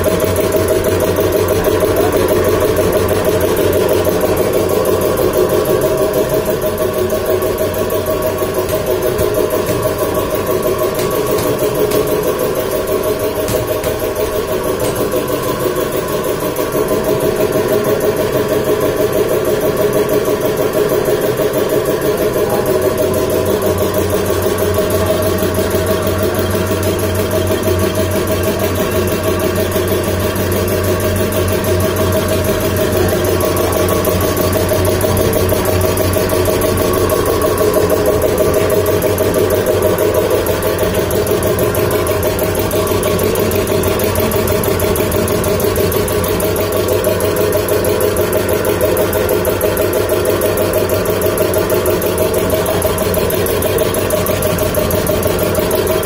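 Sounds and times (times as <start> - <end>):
air compressor humming: 0.0 - 56.0.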